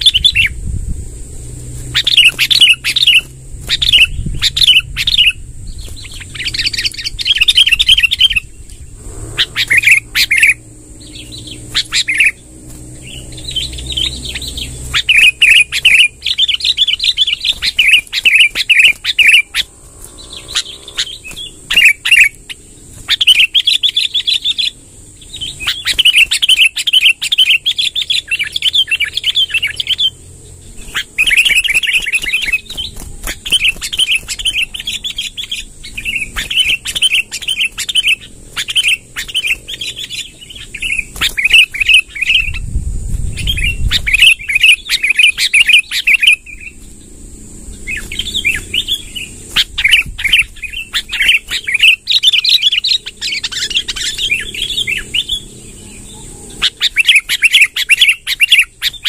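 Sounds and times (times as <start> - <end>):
birds chattering song: 0.0 - 59.0
steady high-pitched whine: 0.0 - 59.0.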